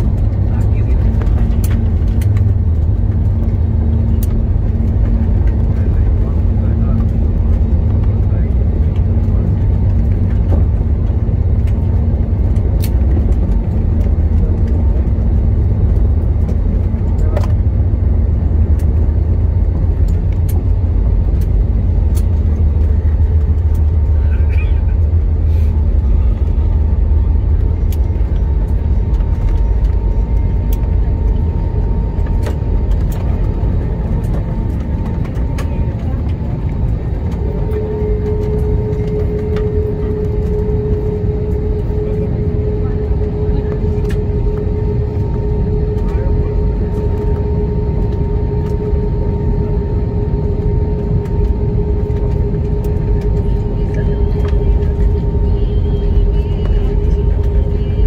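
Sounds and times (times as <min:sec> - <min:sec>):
deep rumble of engines and wheels: 0:00.0 - 0:58.0.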